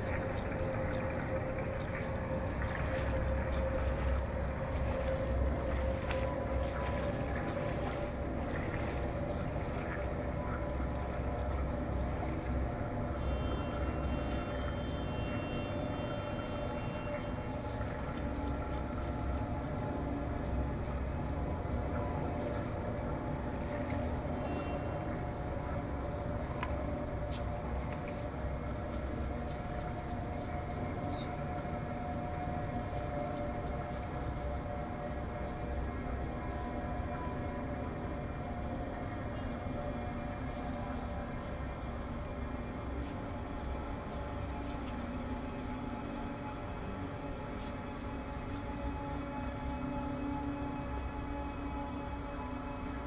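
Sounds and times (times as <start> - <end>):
constant mid-pitched tone: 0.0 - 53.0
faint constant hum: 0.0 - 53.0.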